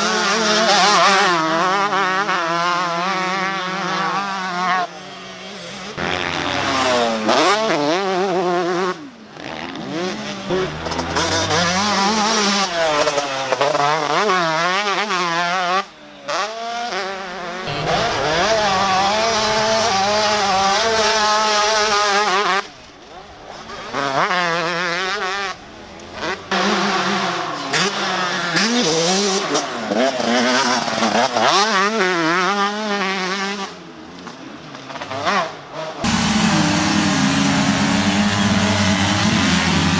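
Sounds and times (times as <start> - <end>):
dirt bike engine revving: 0.0 - 33.9, 34.7 - 39.9.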